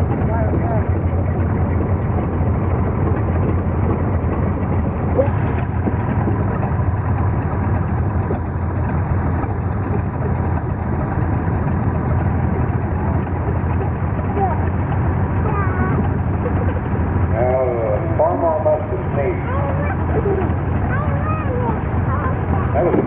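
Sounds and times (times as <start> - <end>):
tractor engines idling: 0.0 - 23.0.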